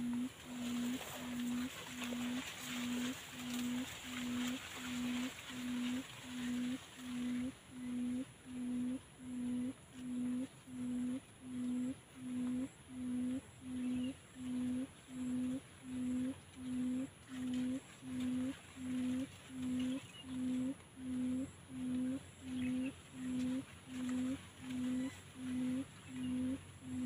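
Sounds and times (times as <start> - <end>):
quail hooting: 0.0 - 27.0.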